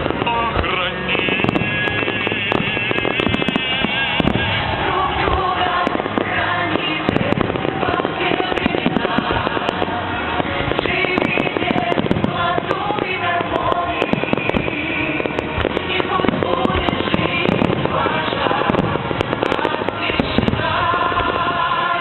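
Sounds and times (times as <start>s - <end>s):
fireworks crackling and banging: 0.0s - 22.0s
music: 0.0s - 22.0s.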